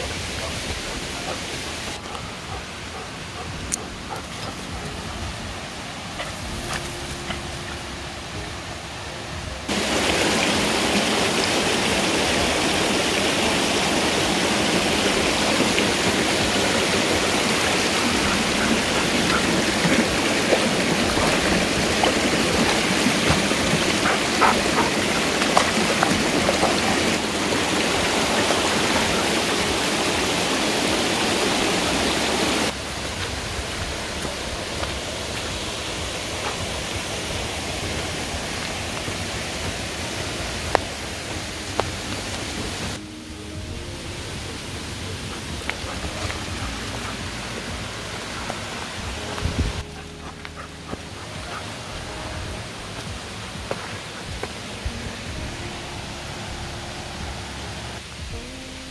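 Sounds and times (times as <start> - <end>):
steady hiss: 0.0 - 58.9
stream rushing over rocks: 0.0 - 58.9.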